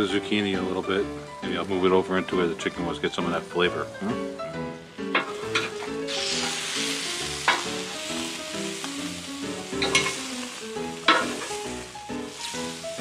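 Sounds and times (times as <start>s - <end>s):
light background music: 0.0s - 13.0s
vegetables sizzling on a grill: 0.0s - 13.0s.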